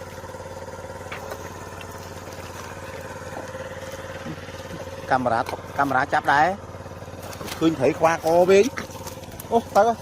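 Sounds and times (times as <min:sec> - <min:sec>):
small engine droning: 0:00.0 - 0:10.0.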